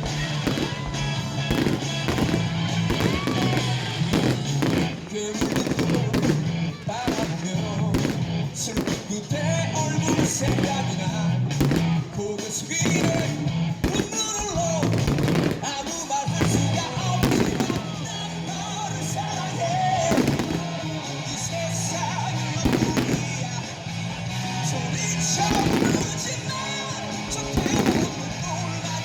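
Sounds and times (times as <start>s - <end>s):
fireworks bursting: 0.0s - 29.0s
loud background music: 0.0s - 29.0s.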